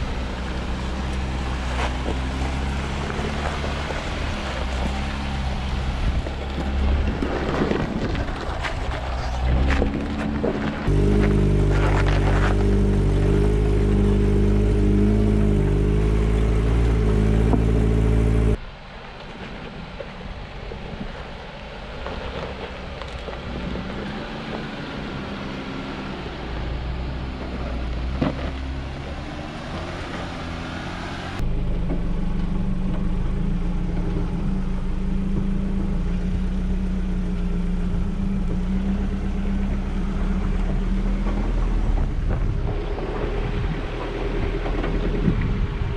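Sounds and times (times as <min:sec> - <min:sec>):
off-road vehicle engines crawling: 0:00.0 - 0:18.7, 0:19.7 - 0:45.9.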